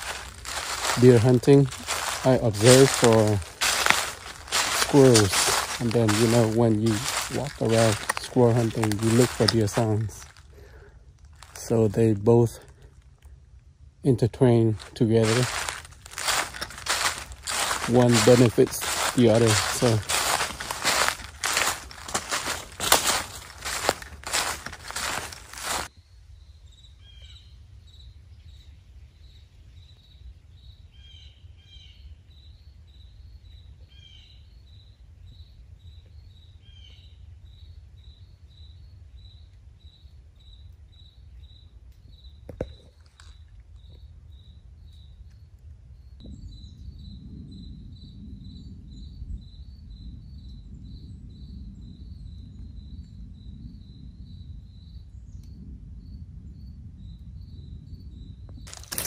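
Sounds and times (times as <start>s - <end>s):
insect chirping steadily: 0.0s - 59.0s.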